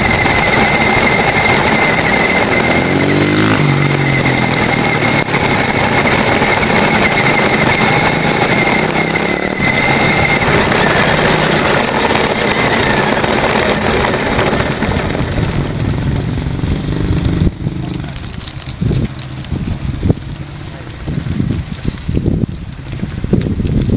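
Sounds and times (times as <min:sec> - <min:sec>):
toy car electric motor whining: 0:00.0 - 0:22.4
motorcycle engine running: 0:00.0 - 0:23.9
rushing road noise: 0:00.0 - 0:23.9.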